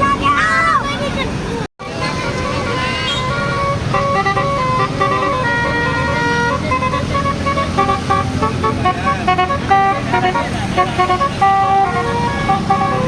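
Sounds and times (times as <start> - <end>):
low engine rumble: 0.0 - 13.0
musical bus horn playing a tune: 1.9 - 13.0.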